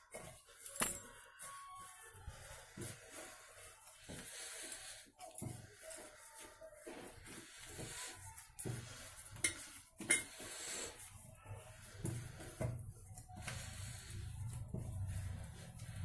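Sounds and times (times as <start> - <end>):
hands kneading dough on steel plate: 0.0 - 16.0.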